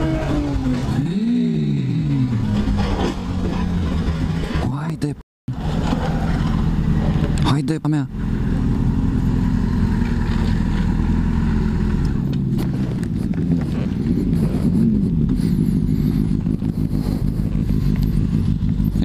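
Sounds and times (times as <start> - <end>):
motorcycle engine at low revs: 0.0 - 4.6, 5.5 - 19.0.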